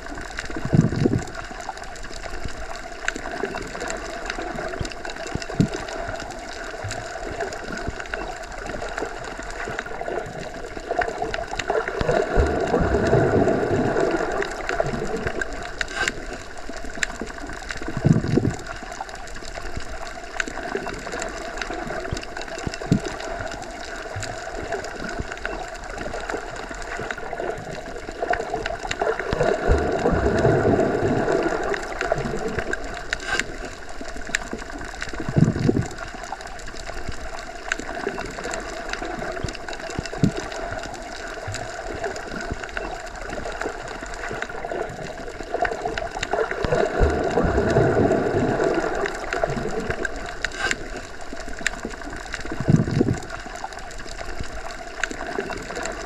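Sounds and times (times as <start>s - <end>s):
small underwater clicks: 0.0s - 56.0s
underwater watery wash: 0.0s - 56.0s.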